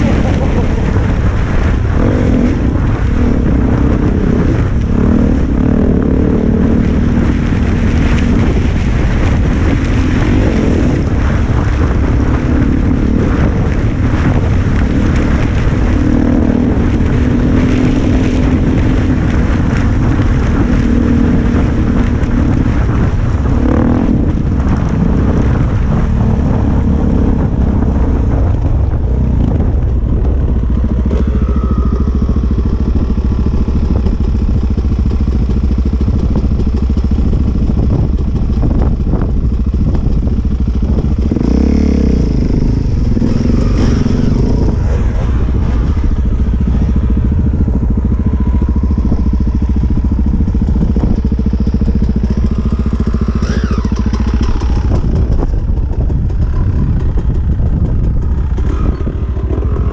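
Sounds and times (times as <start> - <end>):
dirt bike engine revving: 0.0 - 59.9
wind noise on microphone: 0.0 - 59.9.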